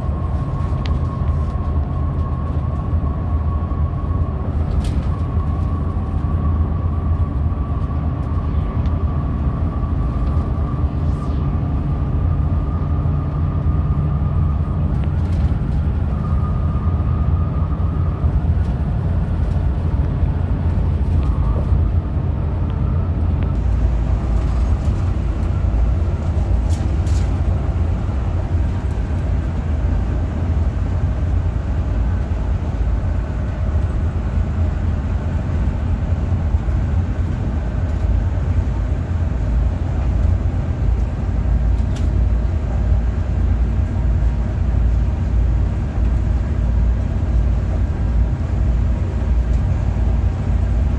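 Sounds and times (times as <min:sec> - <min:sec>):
diesel engine rumble: 0:00.0 - 0:50.9
road noise: 0:00.0 - 0:50.9.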